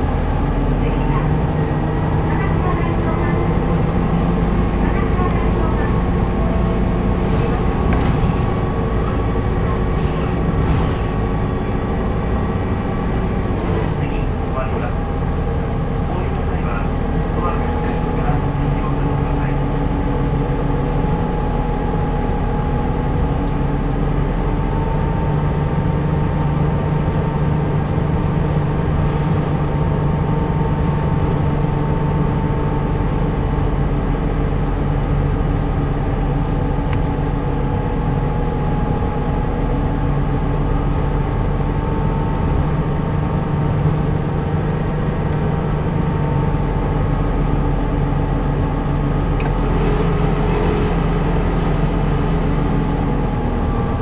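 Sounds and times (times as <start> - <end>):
bus engine droning: 0.0 - 54.0
faint drivetrain whine: 0.0 - 54.0.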